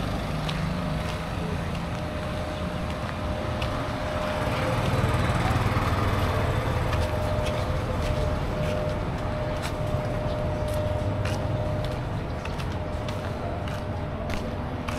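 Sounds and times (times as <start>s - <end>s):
vehicle engine rumble: 0.0s - 14.9s.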